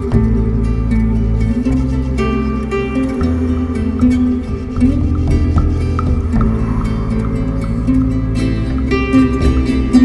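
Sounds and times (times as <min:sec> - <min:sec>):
calm new-age music: 0:00.0 - 0:10.0.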